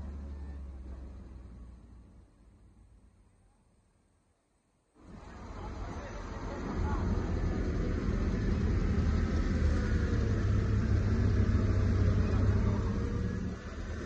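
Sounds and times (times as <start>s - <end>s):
forklift engine rumbling: 0.0s - 3.2s, 5.0s - 14.0s.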